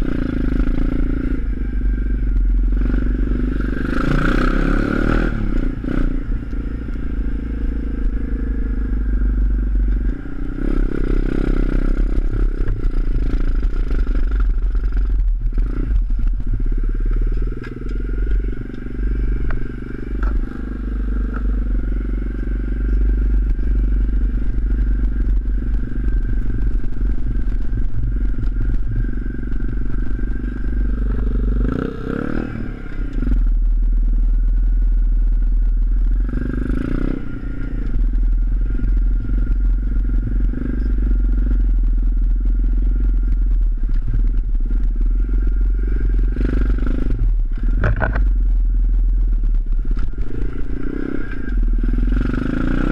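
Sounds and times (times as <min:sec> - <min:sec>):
motorbike engine revving: 0:00.0 - 0:33.7, 0:35.6 - 0:52.9
wind rumble on microphone: 0:00.0 - 0:52.9
bike rattling over rough ground: 0:09.8 - 0:32.5, 0:33.3 - 0:52.9.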